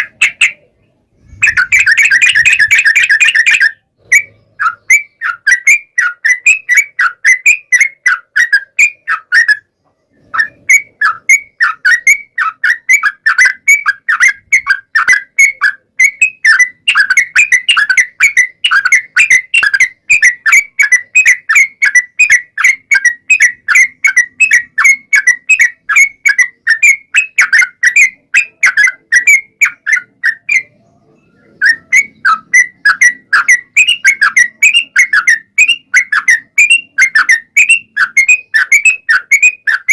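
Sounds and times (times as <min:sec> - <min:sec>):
bird whistled chattering song: 0:00.0 - 0:39.9.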